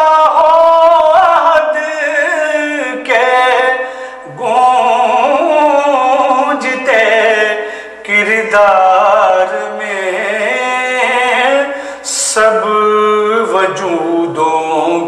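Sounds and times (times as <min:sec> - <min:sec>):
person singing a devotional hymn: 0:00.0 - 0:15.0.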